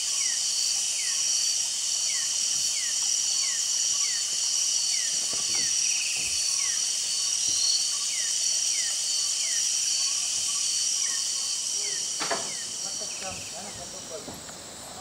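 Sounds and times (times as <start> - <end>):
insects buzzing shrilly: 0.0 - 15.0.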